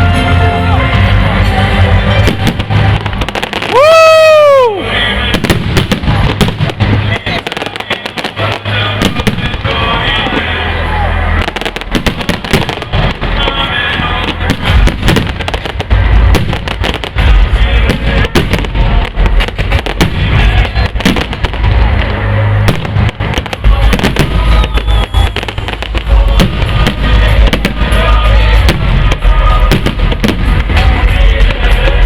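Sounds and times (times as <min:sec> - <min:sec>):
fireworks bangs and booms: 0:00.0 - 0:32.0
music playing: 0:00.0 - 0:32.0.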